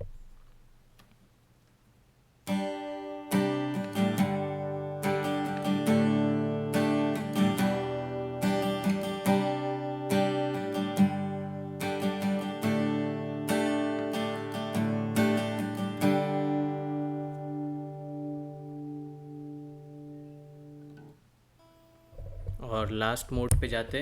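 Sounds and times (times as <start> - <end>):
acoustic guitar strumming: 2.4 - 23.2.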